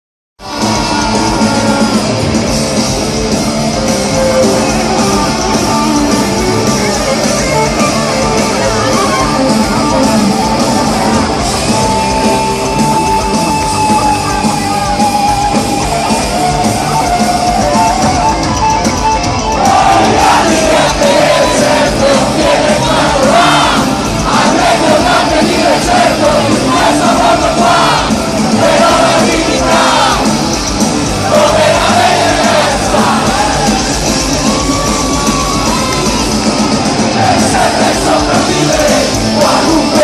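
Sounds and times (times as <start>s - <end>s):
live rock band: 0.4s - 40.0s
long held guitar notes: 0.4s - 40.0s.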